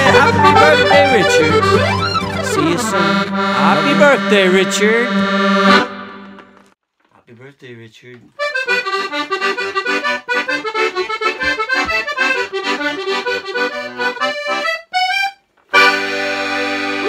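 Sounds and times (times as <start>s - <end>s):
piano accordion playing: 0.0s - 6.7s, 8.4s - 17.0s.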